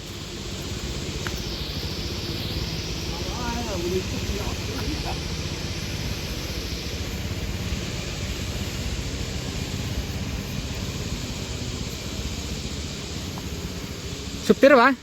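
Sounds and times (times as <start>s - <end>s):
rushing hiss: 0.0s - 15.0s
vehicle engine rumble: 0.0s - 15.0s.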